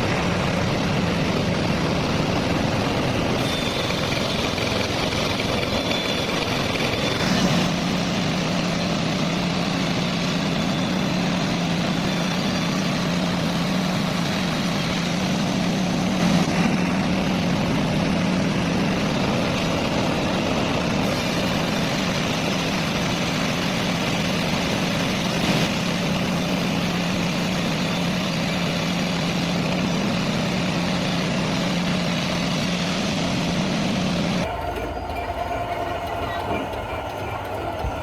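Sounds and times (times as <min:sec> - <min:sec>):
heavy machine humming: 0:00.0 - 0:38.0.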